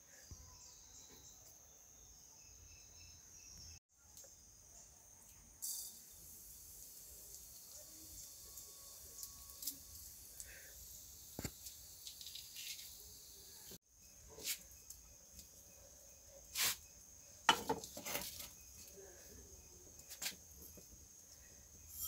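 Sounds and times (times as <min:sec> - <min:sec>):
insect chirring: 0:00.2 - 0:22.0
seeds crackling in a hot pan: 0:04.1 - 0:22.0.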